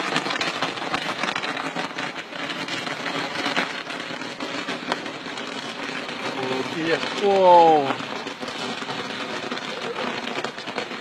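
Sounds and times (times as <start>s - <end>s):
firework crackling: 0.0s - 11.0s.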